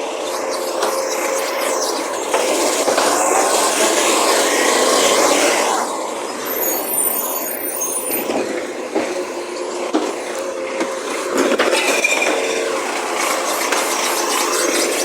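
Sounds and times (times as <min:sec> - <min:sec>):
truck engine and hydraulics: 0:00.0 - 0:15.0.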